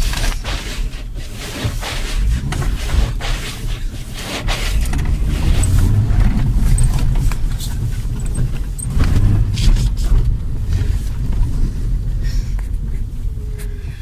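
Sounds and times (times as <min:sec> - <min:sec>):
engine and tyres rumbling: 0:00.0 - 0:14.0.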